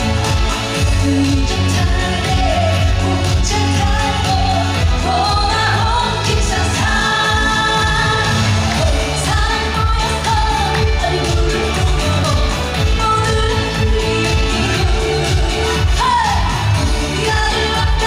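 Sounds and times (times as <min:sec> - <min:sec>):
amplified backing band: 0:00.0 - 0:18.0
woman singing pop song: 0:00.0 - 0:18.0.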